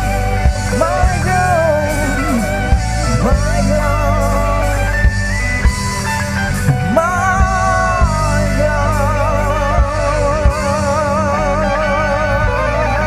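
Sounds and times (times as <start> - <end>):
melody with vibrato: 0.0 - 13.0
rock band playing: 0.0 - 13.0.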